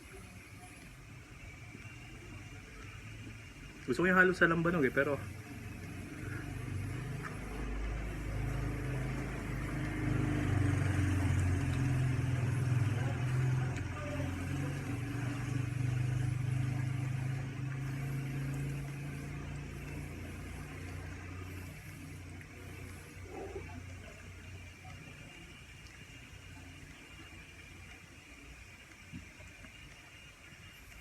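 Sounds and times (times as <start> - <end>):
vehicle engine running: 1.7 - 28.0.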